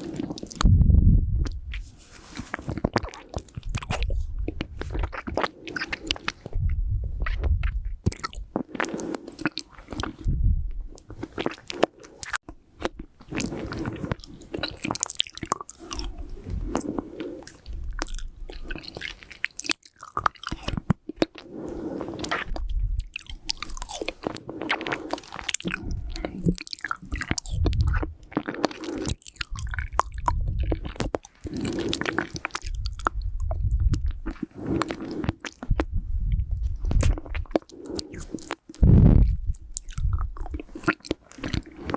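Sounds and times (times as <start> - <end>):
wet mouth eating sounds: 0.0 - 41.9.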